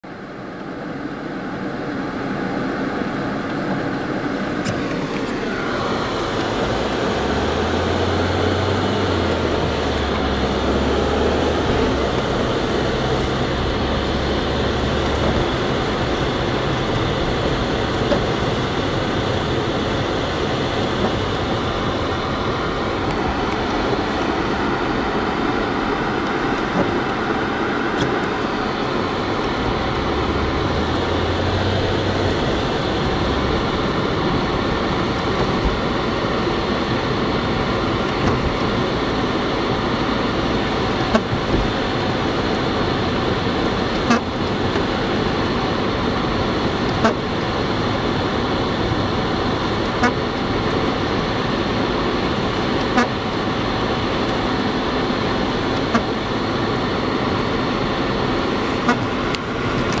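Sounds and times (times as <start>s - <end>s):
in-car road noise: 0.0s - 60.0s
windshield wipers clunking: 3.4s - 57.4s, 58.2s - 60.0s.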